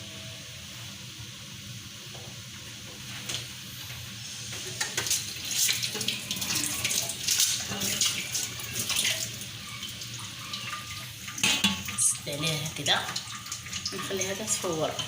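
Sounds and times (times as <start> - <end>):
water boiling and bubbling: 0.5 - 15.0.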